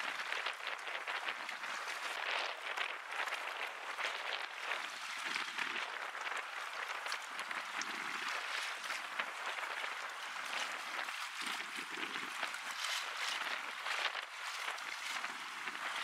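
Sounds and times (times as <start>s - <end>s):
waves lapping at shore: 0.0s - 16.0s.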